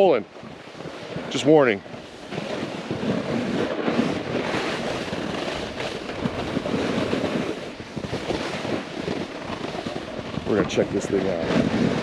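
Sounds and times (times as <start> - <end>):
snowboard scraping through snow: 0.0 - 12.0
wind rushing over microphone: 0.0 - 12.0.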